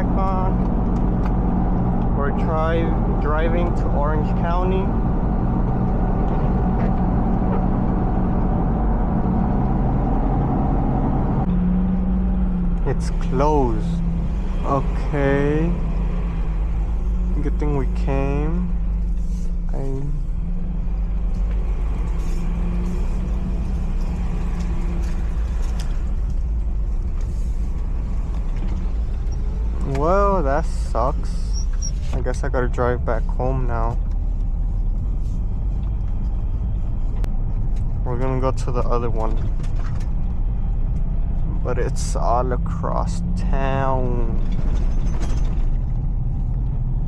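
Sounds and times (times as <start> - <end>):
car engine and road noise inside cabin: 0.0 - 47.0.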